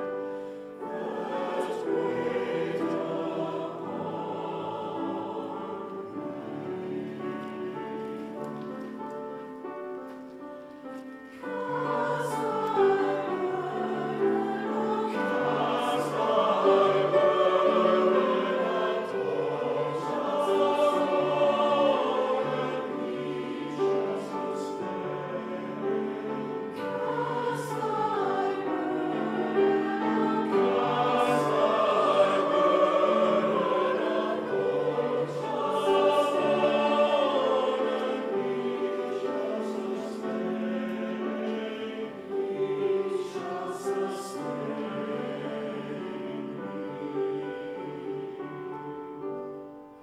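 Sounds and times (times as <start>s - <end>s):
mixed choir singing: 0.0s - 9.3s, 11.3s - 49.6s.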